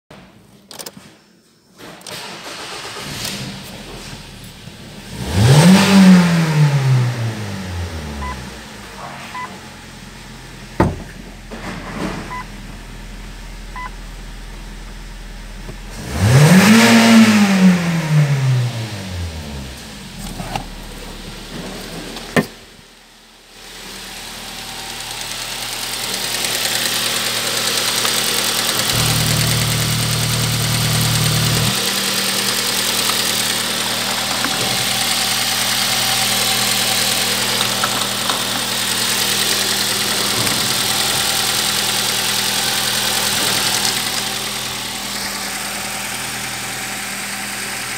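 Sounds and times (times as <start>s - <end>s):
car engine revving and idling: 2.5s - 47.9s.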